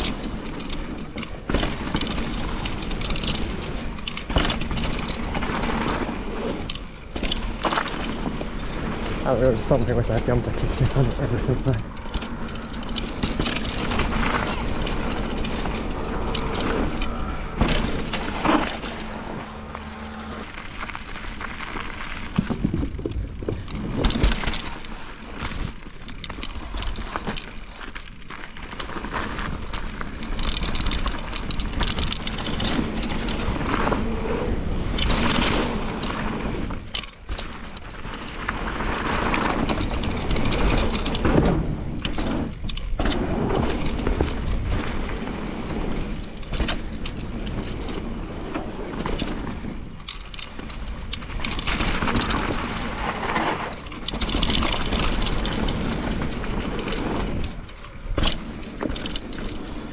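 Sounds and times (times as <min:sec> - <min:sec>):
bike rattling and knocking: 0:00.0 - 0:59.9
bike tyres rolling over dirt: 0:00.0 - 0:59.9.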